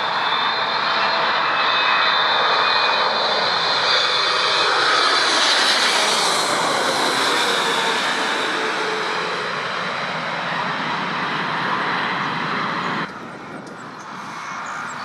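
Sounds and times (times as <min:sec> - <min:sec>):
airliner jet engines whining: 0:00.0 - 0:15.0.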